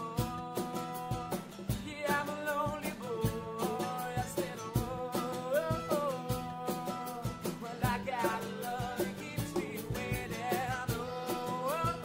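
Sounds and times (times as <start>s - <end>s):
acoustic guitar: 0.0s - 12.0s
person singing: 0.0s - 12.0s
steady drum beat: 0.0s - 12.0s.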